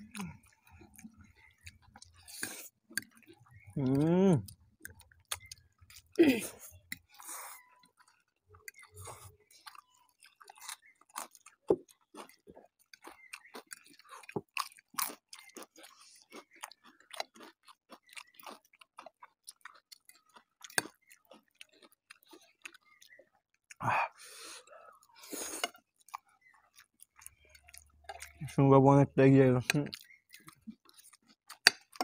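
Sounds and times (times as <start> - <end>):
wet chewing and mouth smacks: 0.0 - 28.6, 29.6 - 32.0.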